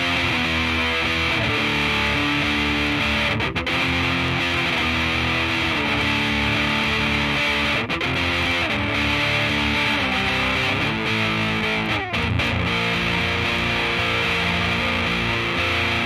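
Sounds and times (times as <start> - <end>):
punk rock with distorted guitar: 0.0 - 16.0.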